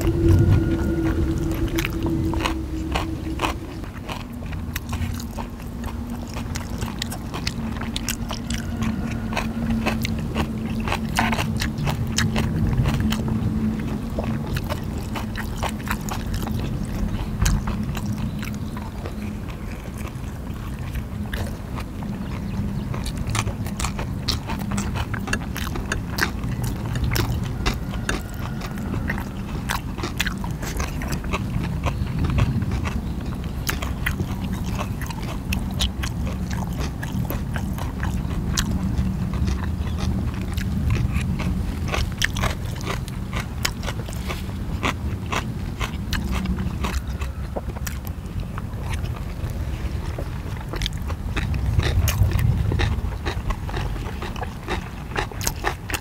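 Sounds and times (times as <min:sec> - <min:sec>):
low steady hum: 0:00.0 - 0:56.0
people chewing: 0:00.0 - 0:56.0.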